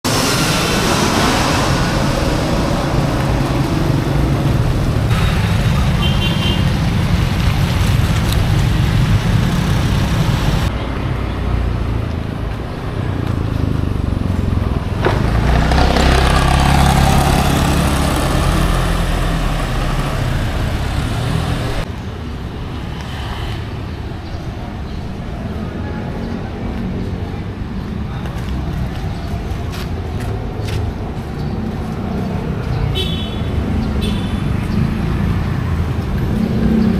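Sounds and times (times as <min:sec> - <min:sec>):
low road rumble: 0:00.0 - 0:36.9
vehicle engines passing: 0:00.0 - 0:36.9.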